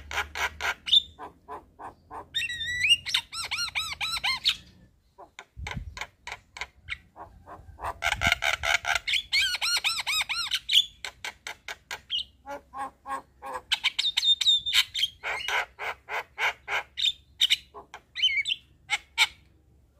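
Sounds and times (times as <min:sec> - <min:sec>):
bird chattering and whistling: 0:00.0 - 0:19.5.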